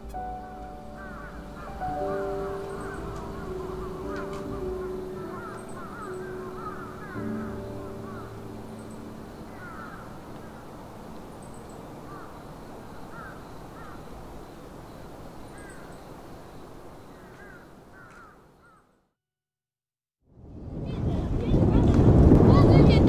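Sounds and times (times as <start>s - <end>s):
birds calling: 0.0s - 19.0s
outdoor background noise: 0.0s - 19.1s, 20.4s - 23.0s.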